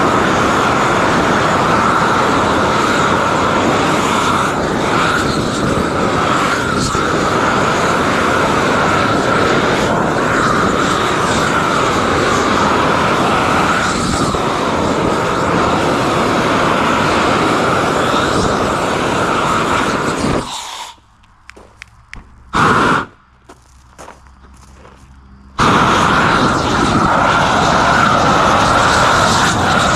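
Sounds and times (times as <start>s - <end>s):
propane torch flame roaring: 0.0s - 23.3s, 25.4s - 29.9s.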